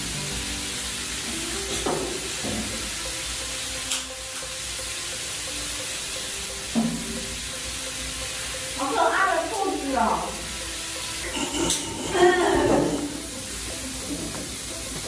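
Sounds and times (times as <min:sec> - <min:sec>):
faint background music: 0:00.0 - 0:15.0
meat sizzling on a grill: 0:00.0 - 0:15.0.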